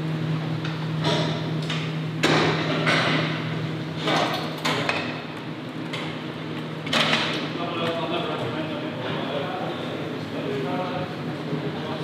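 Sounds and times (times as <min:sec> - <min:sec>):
machinery low hum: 0:00.0 - 0:12.0.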